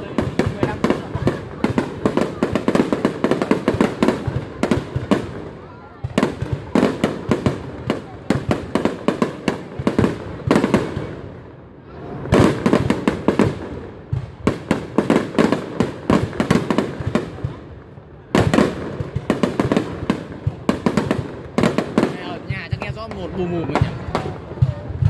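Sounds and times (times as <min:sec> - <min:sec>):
fireworks bursting with echoing bangs: 0:00.0 - 0:25.0.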